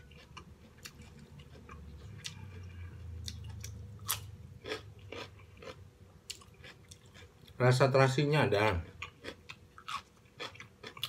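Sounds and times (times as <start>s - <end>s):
person chewing crunchy vegetables: 0.0s - 7.6s, 8.7s - 11.0s.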